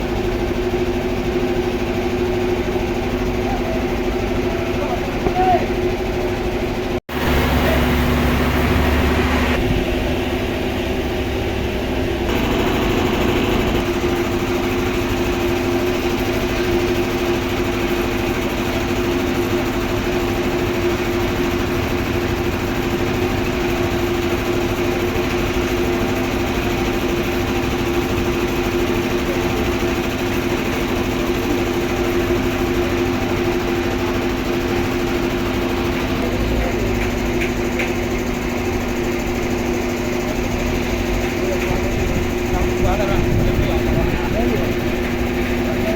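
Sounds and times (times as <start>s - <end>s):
sawmill machinery running: 0.0s - 45.9s.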